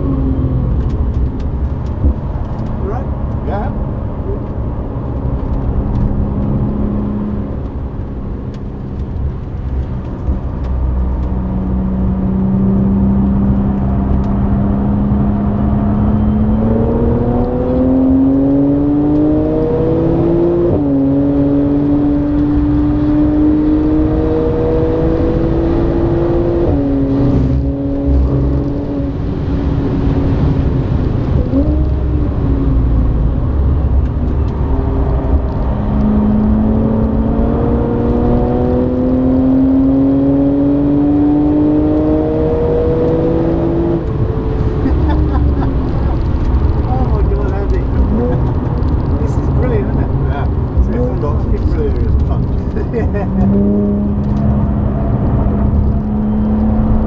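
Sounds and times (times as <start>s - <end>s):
car engine revving through gears: 0.0s - 57.0s
tyre and road noise: 0.0s - 57.0s.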